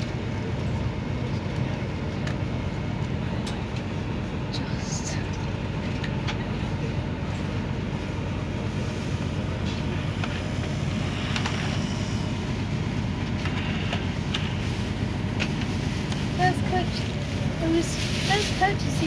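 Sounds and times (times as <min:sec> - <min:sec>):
train carriage low rumble: 0:00.0 - 0:19.0.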